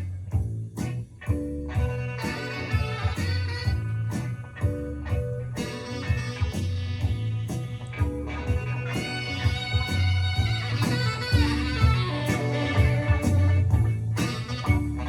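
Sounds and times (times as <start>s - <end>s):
music with guitar bass and drums: 0.0s - 15.0s.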